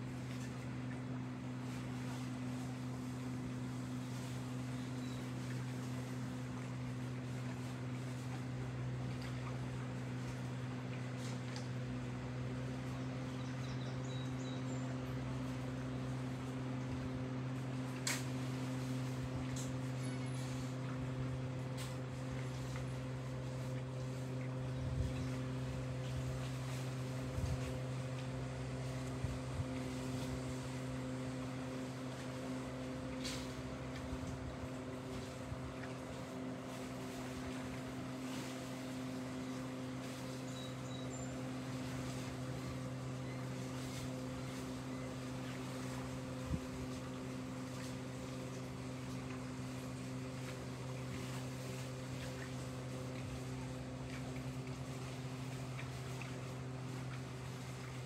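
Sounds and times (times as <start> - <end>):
engine droning: 0.0 - 58.0.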